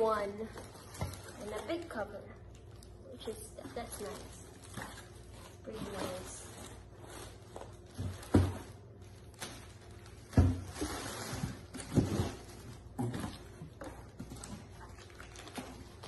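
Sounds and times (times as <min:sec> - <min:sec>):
rustling packaging: 0:00.0 - 0:16.0.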